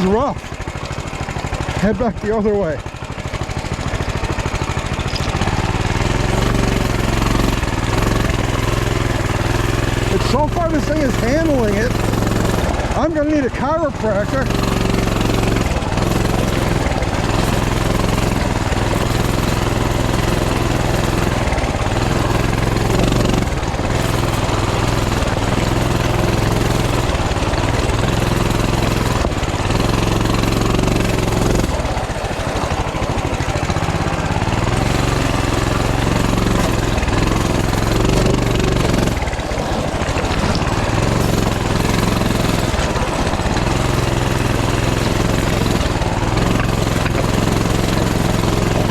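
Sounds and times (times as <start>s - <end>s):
small engine running hard: 0.0s - 48.9s.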